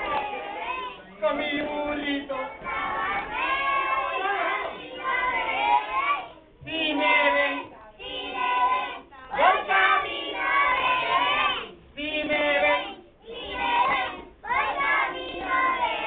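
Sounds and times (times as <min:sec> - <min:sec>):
children singing together: 0:00.0 - 0:16.0.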